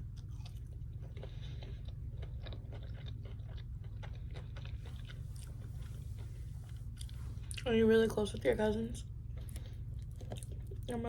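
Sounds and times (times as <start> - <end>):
chewing food with wet mouth clicks: 0.0 - 7.7, 9.3 - 10.9
steady low hum: 0.0 - 11.0.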